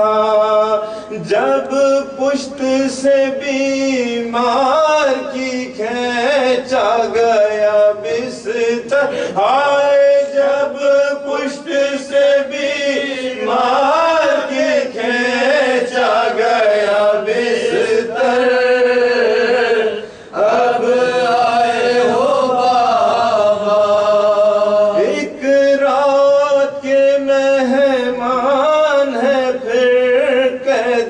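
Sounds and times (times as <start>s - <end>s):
man chanting unaccompanied: 0.0s - 31.0s.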